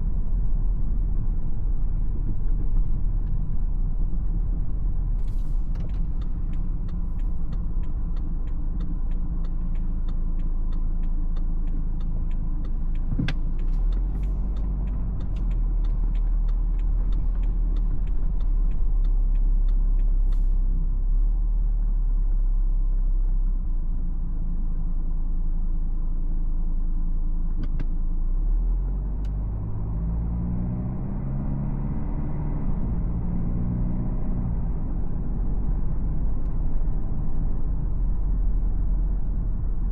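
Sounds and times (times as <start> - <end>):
diesel engine and road rumble: 0.0 - 39.9.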